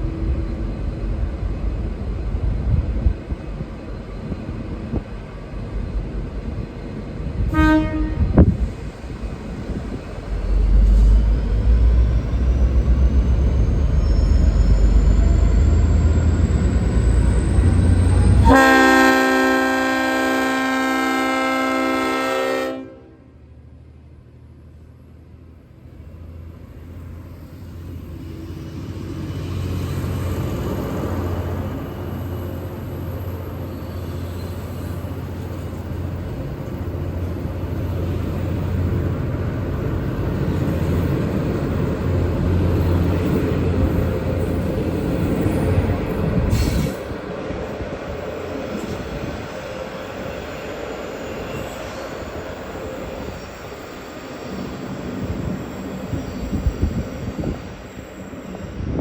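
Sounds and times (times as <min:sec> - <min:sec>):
passenger train droning past: 0:00.0 - 0:59.0.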